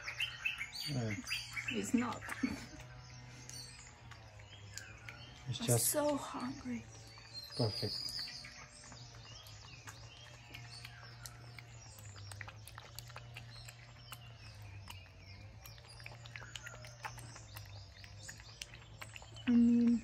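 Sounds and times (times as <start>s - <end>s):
birds chirping: 0.0s - 20.0s
puppy lapping milk: 0.0s - 20.0s.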